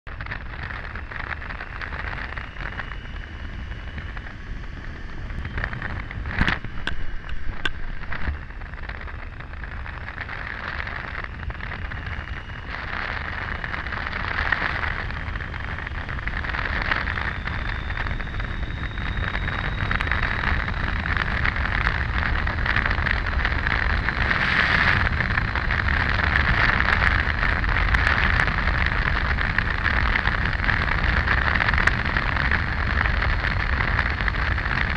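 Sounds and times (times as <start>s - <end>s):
motorcycle engine rumble: 0.1s - 34.9s
wind rushing over microphone: 0.1s - 34.9s.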